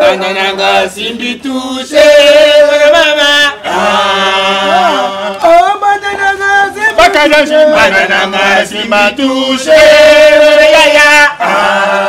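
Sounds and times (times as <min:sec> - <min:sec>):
voices chanting together: 0:00.0 - 0:12.0.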